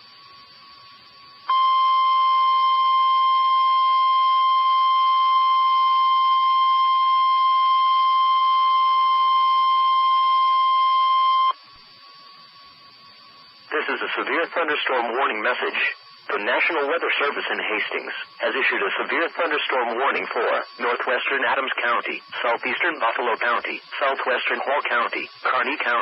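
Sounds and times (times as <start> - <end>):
loud steady alarm tone: 0.0 - 26.0.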